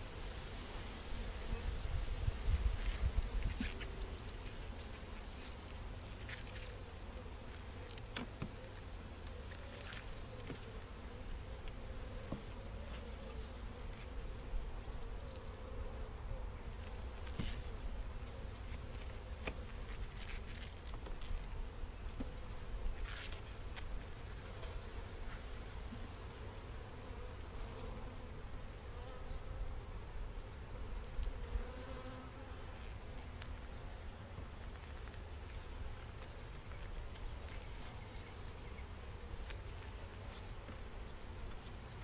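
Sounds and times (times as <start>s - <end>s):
honeybees buzzing: 0.6s - 42.0s.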